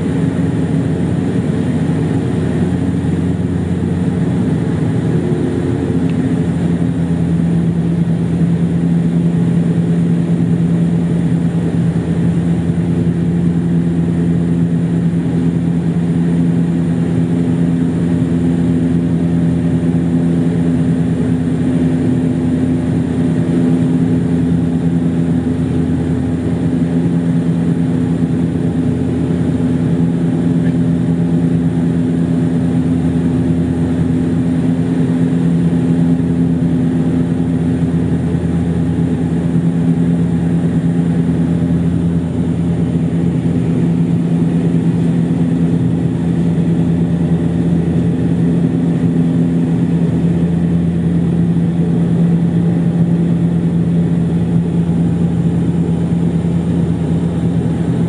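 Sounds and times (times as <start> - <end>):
turboprop cabin drone: 0.0 - 58.0.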